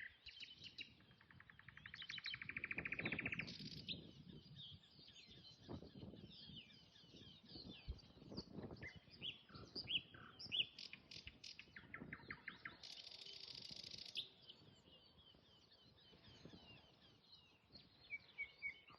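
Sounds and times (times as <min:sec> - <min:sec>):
nightingale singing: 0:00.0 - 0:18.9.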